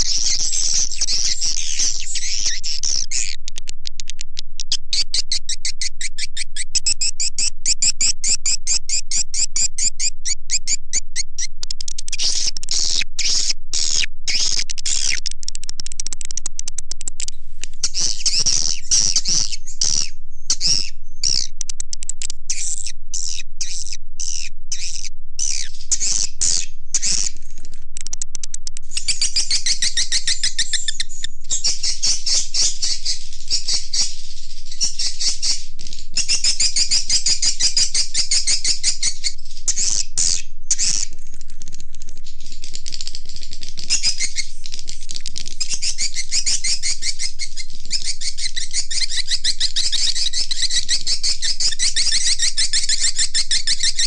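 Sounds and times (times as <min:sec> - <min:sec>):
swiftlets twittering and trilling: 0:00.0 - 0:03.4, 0:04.0 - 0:34.1, 0:36.2 - 0:54.0.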